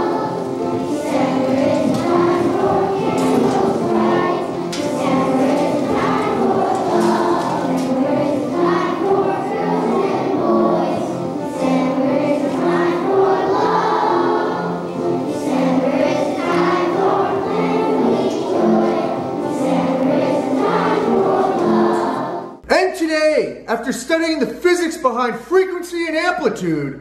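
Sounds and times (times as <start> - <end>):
children's choir singing: 0.0 - 22.6.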